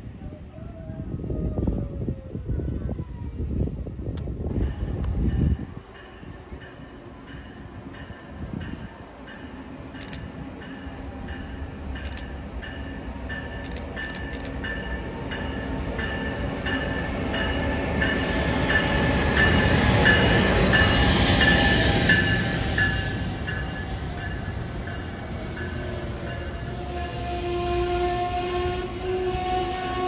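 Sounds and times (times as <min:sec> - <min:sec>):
electric locomotive rumble: 0:00.5 - 0:30.0
train wheels rolling: 0:04.0 - 0:30.0.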